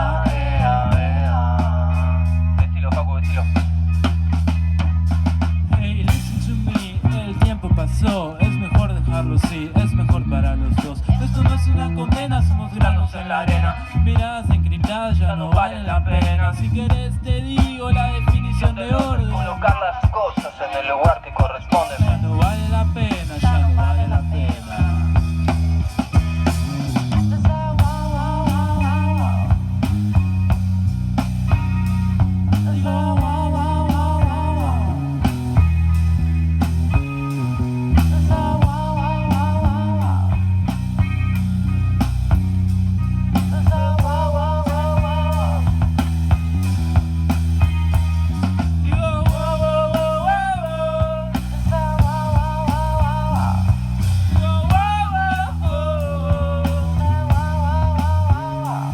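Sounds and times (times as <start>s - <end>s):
bass guitar: 0.0s - 58.9s
drums: 0.0s - 58.9s
rock band playing live: 0.0s - 58.9s.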